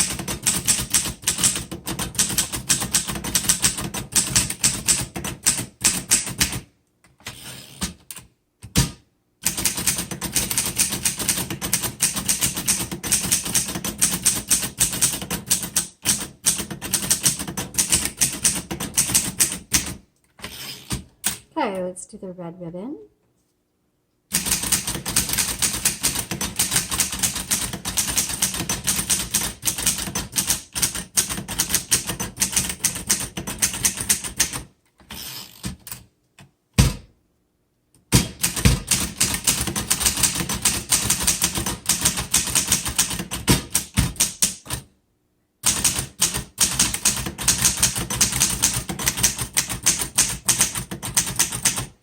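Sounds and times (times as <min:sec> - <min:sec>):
manual typewriter typing: 0:00.0 - 0:06.7, 0:07.3 - 0:21.4, 0:24.3 - 0:36.0, 0:38.2 - 0:44.9, 0:45.6 - 0:52.0.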